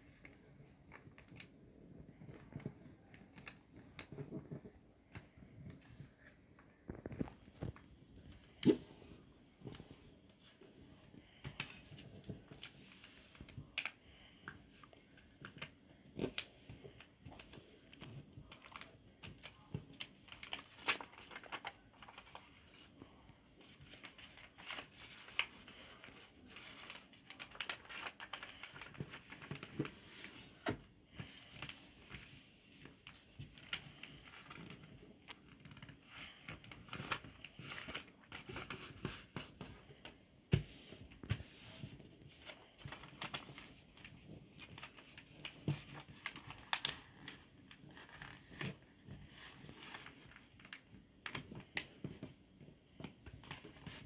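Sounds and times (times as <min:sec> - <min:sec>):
paper rustling and crinkling: 0:00.0 - 0:54.0.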